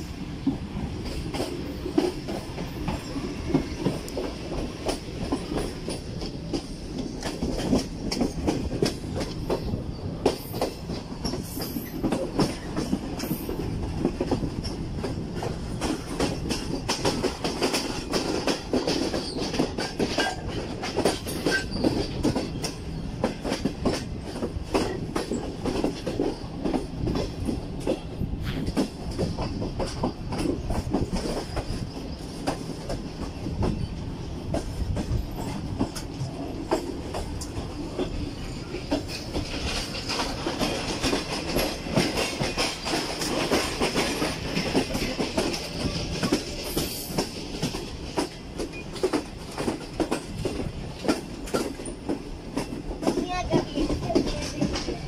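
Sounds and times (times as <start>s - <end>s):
train wheels rolling rumble: 0.0s - 55.0s
wheels clickety-clack on rail joints: 0.0s - 55.0s.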